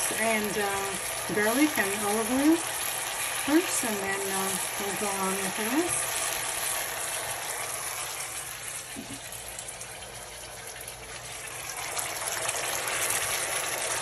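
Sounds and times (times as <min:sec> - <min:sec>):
sauce sizzling in a frying pan: 0:00.0 - 0:14.0.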